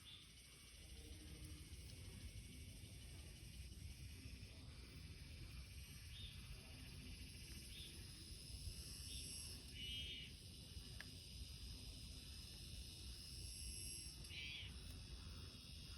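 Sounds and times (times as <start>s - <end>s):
high insect drone: 0.0s - 15.9s.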